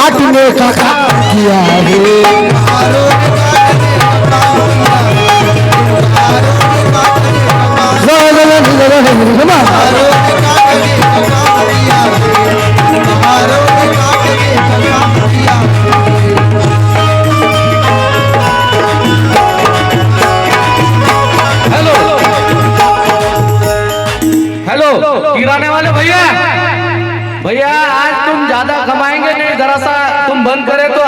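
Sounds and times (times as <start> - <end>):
tabla: 0.0 - 31.0
melody instrument holding notes: 1.1 - 27.6.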